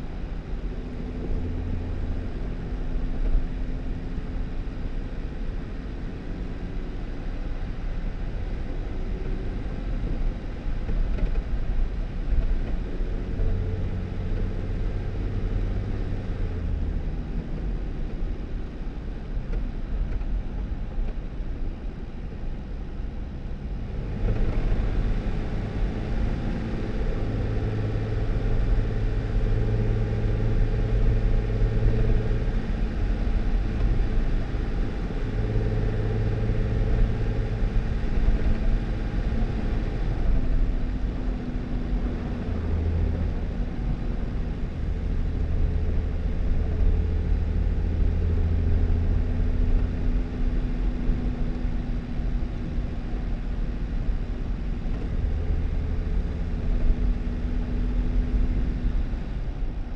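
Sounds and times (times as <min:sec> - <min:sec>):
car engine hum: 0:00.0 - 0:59.9.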